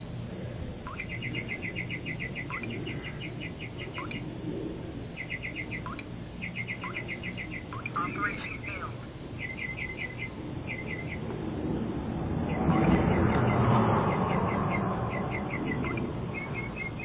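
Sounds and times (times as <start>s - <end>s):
steady low hum: 0.0s - 17.0s
birds chirping: 0.8s - 11.4s, 12.3s - 17.0s.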